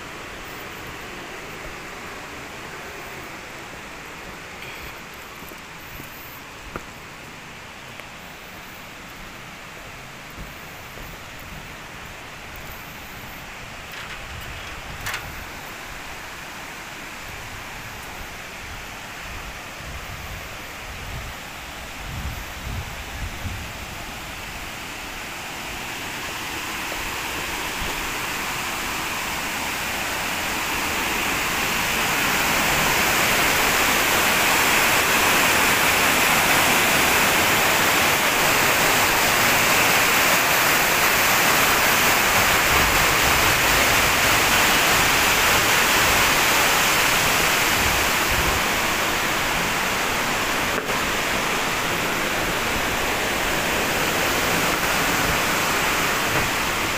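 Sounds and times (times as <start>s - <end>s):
flowing water rushing: 0.0s - 56.9s.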